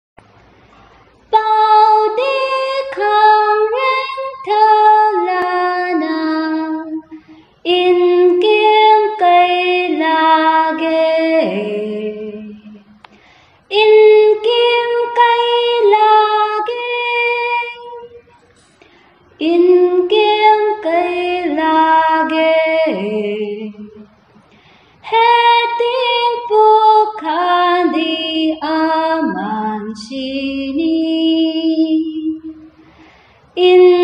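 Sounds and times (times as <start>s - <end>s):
young woman singing unaccompanied: 1.2s - 24.2s, 25.0s - 32.9s, 33.5s - 34.0s.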